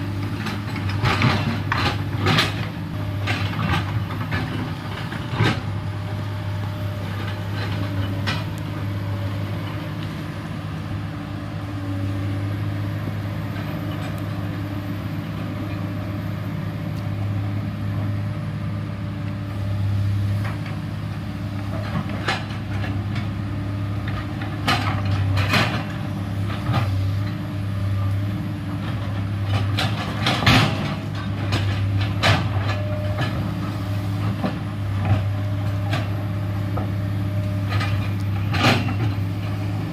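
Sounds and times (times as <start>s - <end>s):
excavator diesel engine humming: 0.0s - 39.9s.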